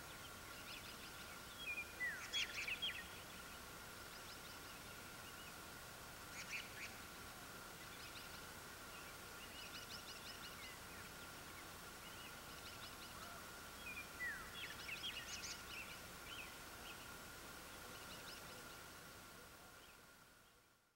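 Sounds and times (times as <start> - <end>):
wild birds chirping: 0.0 - 20.8
faint steady whine: 0.0 - 20.9
low hiss: 0.0 - 20.9.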